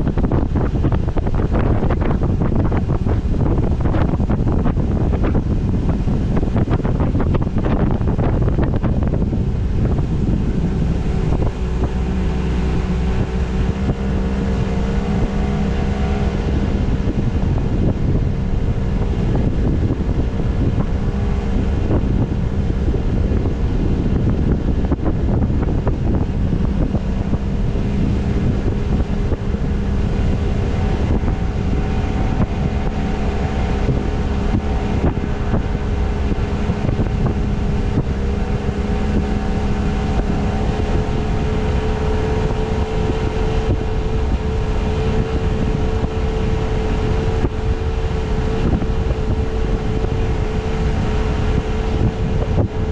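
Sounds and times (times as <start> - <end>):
boat motor droning: 0.0 - 52.9
wind noise on microphone: 0.0 - 52.9.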